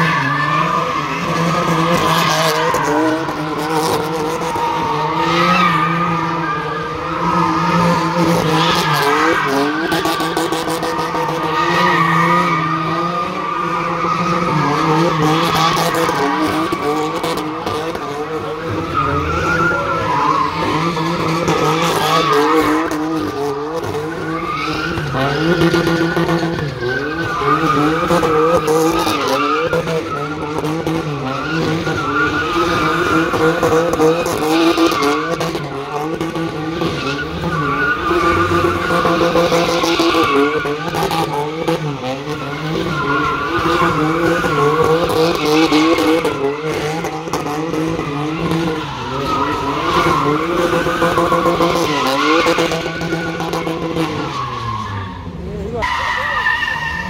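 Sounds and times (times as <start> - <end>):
car engine revving: 0.0 - 57.0
tyres screeching: 0.0 - 57.0.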